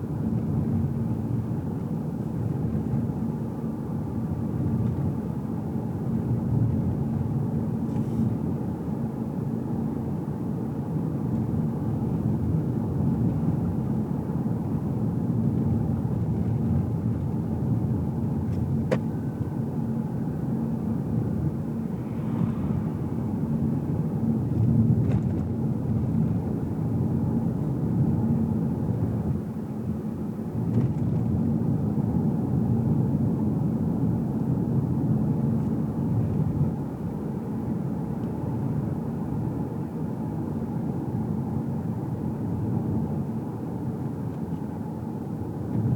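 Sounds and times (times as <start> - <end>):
engine and tyre rumble: 0.0 - 45.9.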